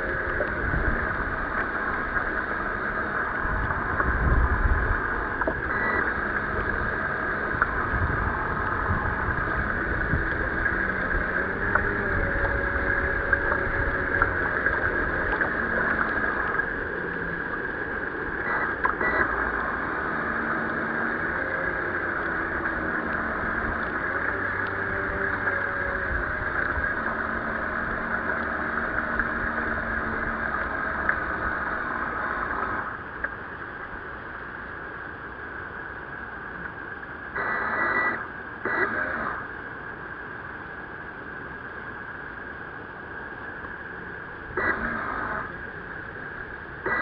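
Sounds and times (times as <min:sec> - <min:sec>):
water splashing against a hull: 0:00.0 - 0:47.0.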